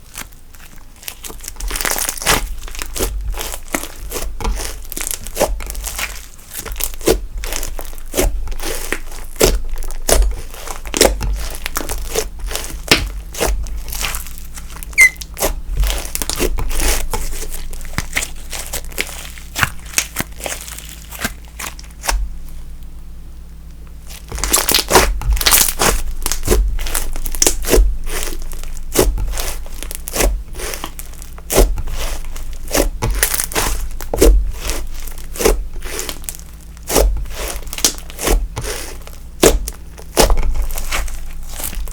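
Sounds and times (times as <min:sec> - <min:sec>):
slime clicking and crackling: 0:00.0 - 0:22.3, 0:23.9 - 0:41.9.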